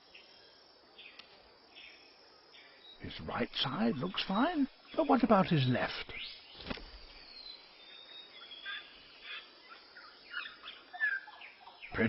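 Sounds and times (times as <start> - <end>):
bird calls and chirps: 0.0 - 12.0.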